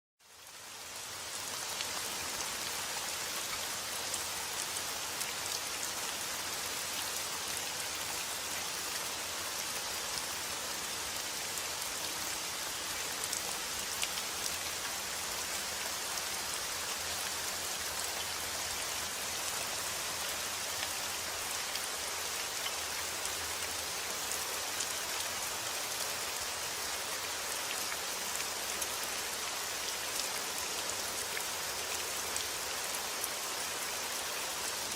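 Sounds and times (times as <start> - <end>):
rain falling on a surface: 0.2 - 34.9.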